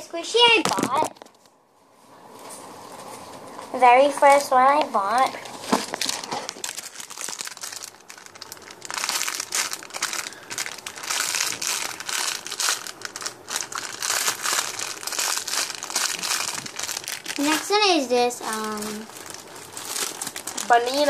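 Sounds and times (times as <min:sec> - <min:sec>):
plastic packaging crinkling: 0:00.4 - 0:01.5, 0:04.3 - 0:21.0.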